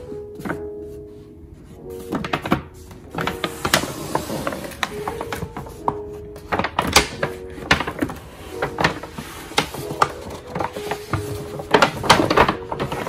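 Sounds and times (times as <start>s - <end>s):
background music: 0.0s - 13.0s
paper bag crinkling: 2.0s - 13.0s.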